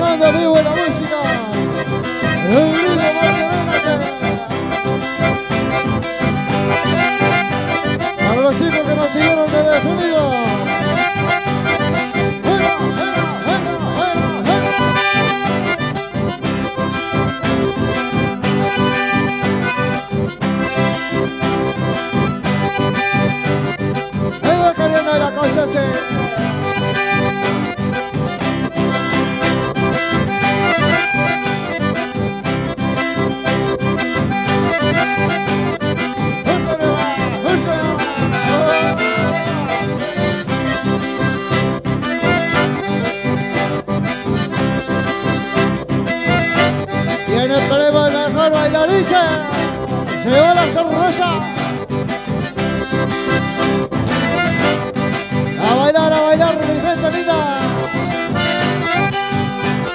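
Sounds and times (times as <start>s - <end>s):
accordion band dance music: 0.0s - 59.9s.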